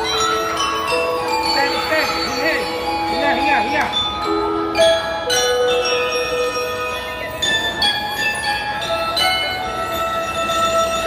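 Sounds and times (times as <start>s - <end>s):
glockenspiel ringing notes: 0.0s - 11.0s.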